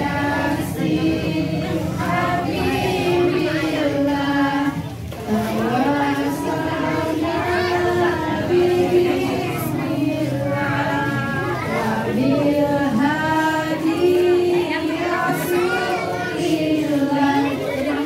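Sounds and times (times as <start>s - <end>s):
voices singing long held notes: 0.0s - 18.0s.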